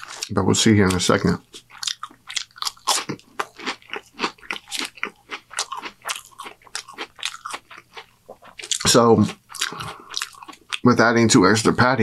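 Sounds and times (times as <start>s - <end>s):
chewing crisp onion ring: 0.0s - 11.7s.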